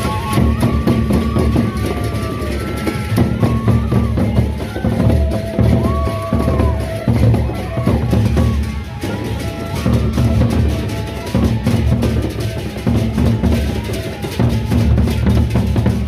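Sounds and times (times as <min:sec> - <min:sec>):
barrel drums beaten fast: 0:00.0 - 0:16.0.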